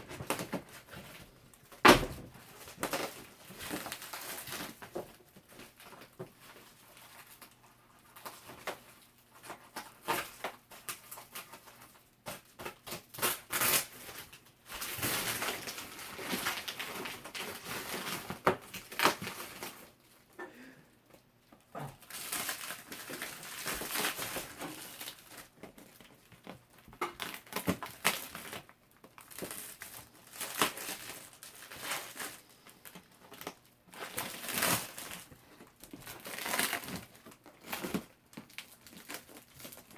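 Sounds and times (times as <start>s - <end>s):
packaging rustling and crinkling: 0.0s - 20.4s, 22.0s - 39.9s.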